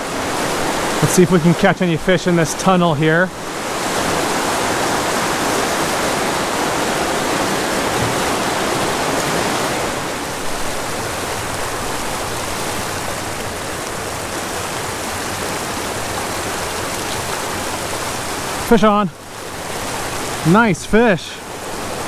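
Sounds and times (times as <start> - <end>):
creek rushing over rocks: 0.0 - 22.0.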